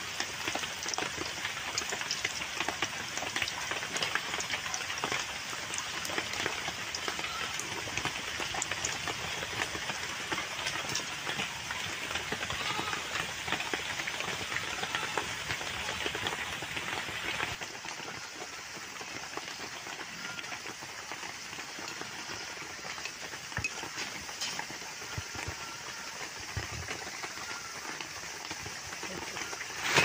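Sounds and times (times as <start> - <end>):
biscuits deep-frying in hot oil: 0.0 - 30.0.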